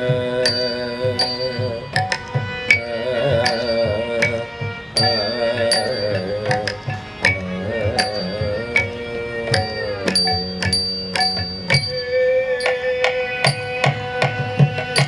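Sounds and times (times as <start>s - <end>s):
drum beats: 0.0s - 15.0s
ornamented melody: 0.0s - 15.0s.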